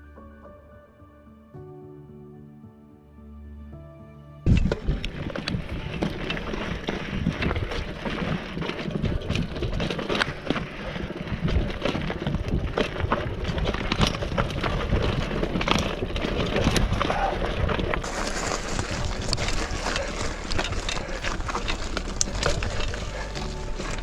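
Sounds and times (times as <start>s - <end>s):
bike knocking and rattling: 4.5s - 24.0s
tyres crunching on rocky trail: 4.5s - 24.0s
wind on microphone: 4.5s - 24.0s.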